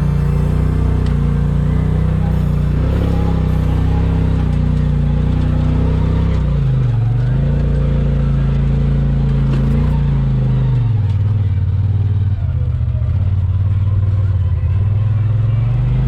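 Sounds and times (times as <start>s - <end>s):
vehicle engine driving: 0.0s - 16.0s.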